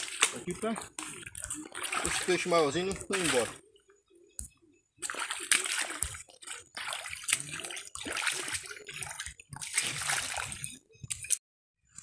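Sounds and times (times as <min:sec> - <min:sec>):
water sloshing and splashing: 0:00.0 - 0:11.4.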